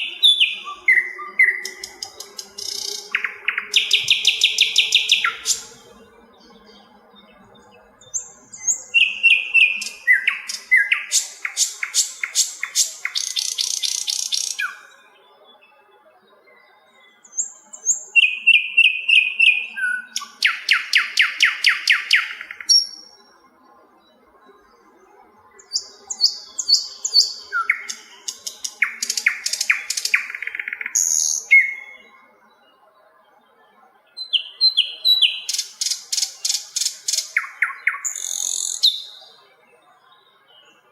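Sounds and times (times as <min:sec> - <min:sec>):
bird singing whistled notes and trill: 0:00.0 - 0:40.9.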